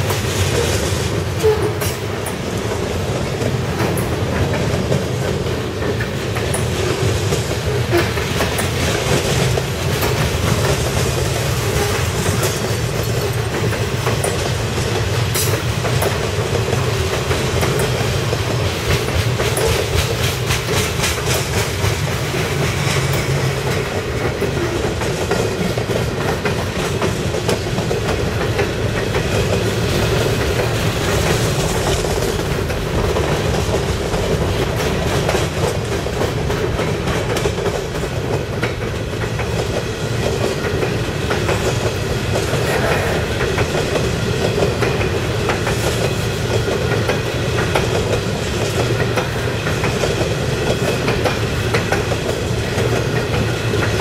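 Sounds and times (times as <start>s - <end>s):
freight train rumbling past: 0.0s - 54.0s
wheels clicking over track: 0.0s - 54.0s.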